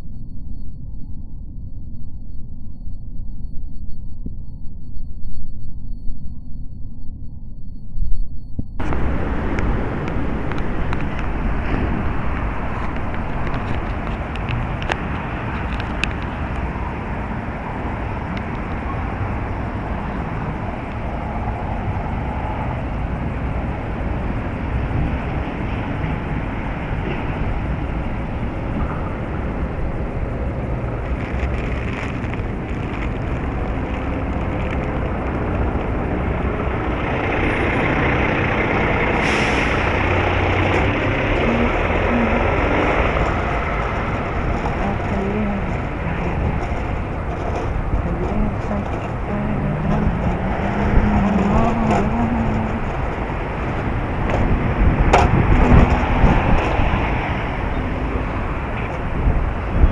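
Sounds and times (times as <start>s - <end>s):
strong wind buffeting microphone: 8.5s - 59.9s.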